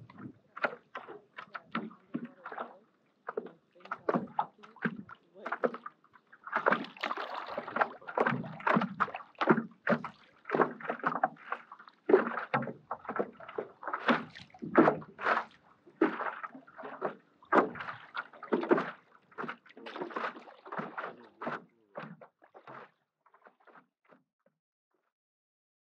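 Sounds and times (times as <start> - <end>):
paddle splashing in water: 0.0 - 23.9.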